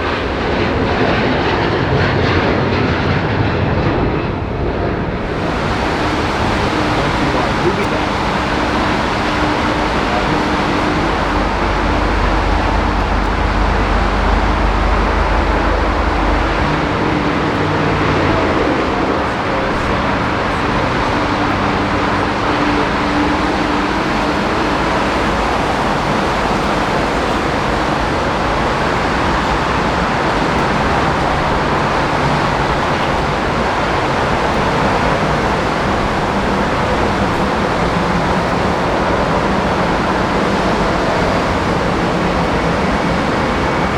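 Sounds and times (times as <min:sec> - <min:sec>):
low drone of aircraft: 0:00.0 - 0:43.9
heavy rain falling: 0:05.2 - 0:43.9.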